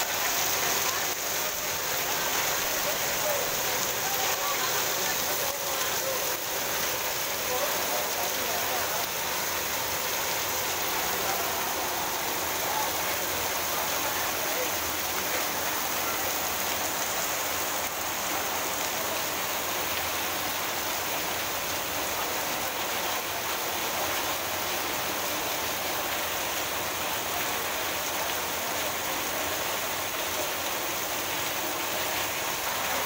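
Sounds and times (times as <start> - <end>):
torrential rain: 0.0 - 33.0
water pouring off roof edges: 0.0 - 33.0.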